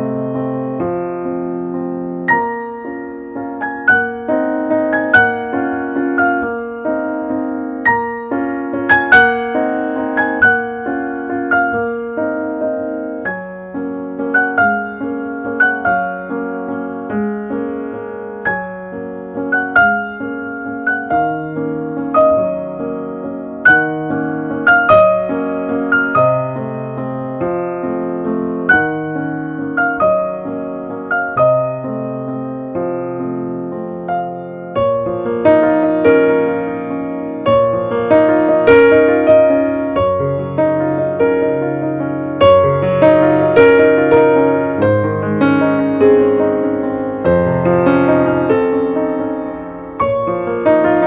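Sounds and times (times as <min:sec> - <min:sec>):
slow gentle piano piece: 0:00.0 - 0:51.0.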